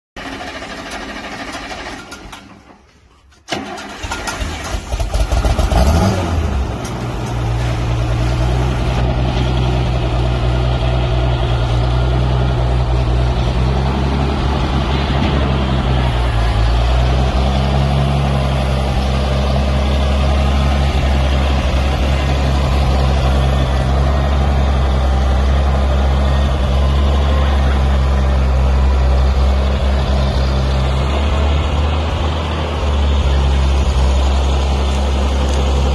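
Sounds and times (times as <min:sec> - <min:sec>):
tractor engine starting and running: 0:00.2 - 0:35.9.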